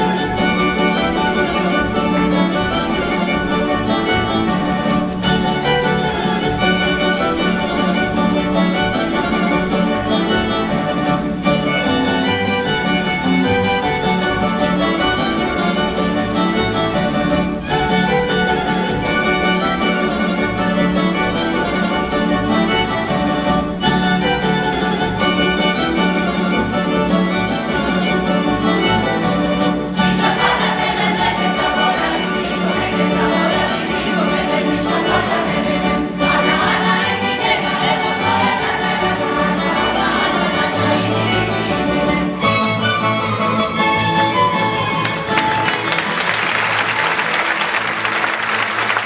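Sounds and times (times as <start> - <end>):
folk dance music string band: 0.0 - 49.0
violin melody: 0.0 - 49.0.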